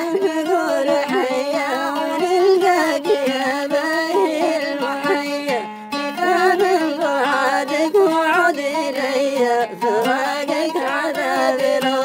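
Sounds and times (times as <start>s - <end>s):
instrumental accompaniment: 0.0s - 12.0s
solo voice singing melismatic lines: 0.0s - 12.0s.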